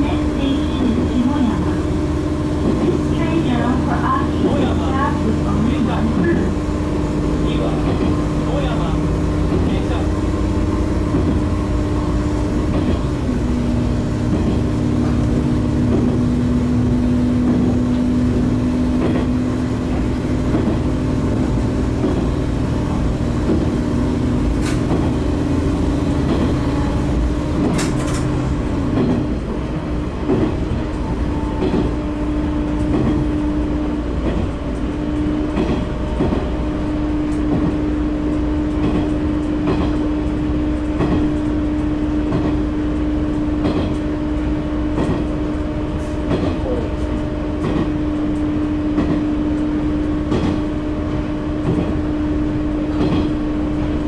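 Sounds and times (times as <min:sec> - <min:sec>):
diesel engine drone: 0:00.0 - 0:54.0
rumbling wheel and rail noise: 0:00.0 - 0:54.0.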